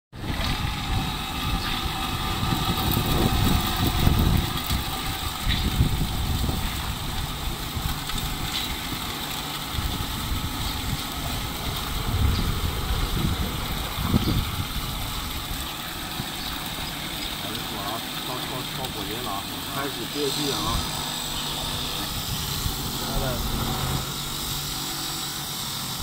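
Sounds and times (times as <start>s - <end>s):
soy milk grinder running: 0.2s - 26.0s.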